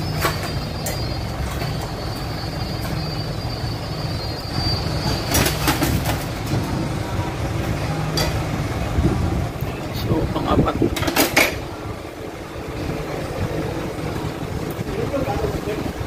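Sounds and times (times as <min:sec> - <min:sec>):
machine drone with high whine: 0:00.0 - 0:16.0.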